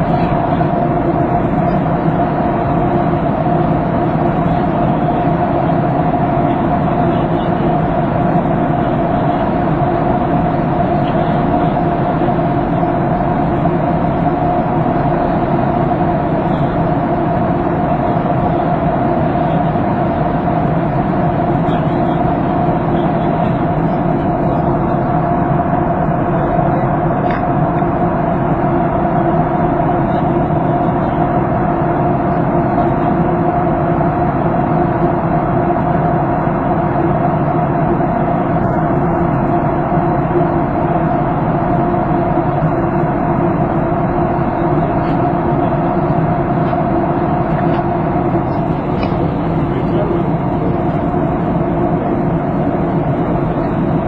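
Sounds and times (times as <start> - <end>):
constant hum: 0.0 - 54.0
jet engines droning: 0.0 - 54.0.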